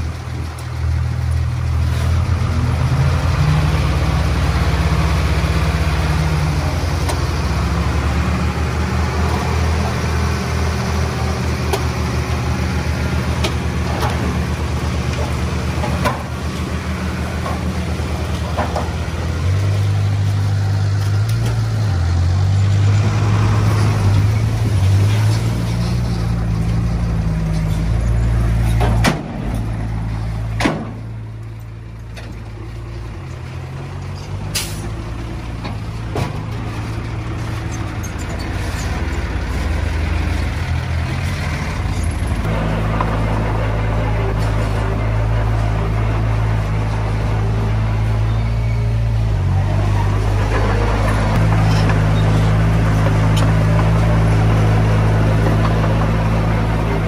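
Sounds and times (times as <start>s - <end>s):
heavy diesel engine working: 0.0s - 57.0s.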